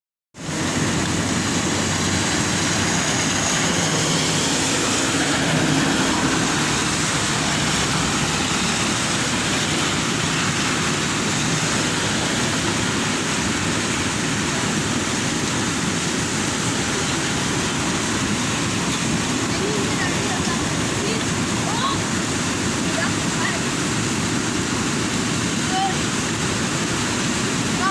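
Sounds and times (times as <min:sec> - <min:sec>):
river water roaring: 0:00.4 - 0:27.9.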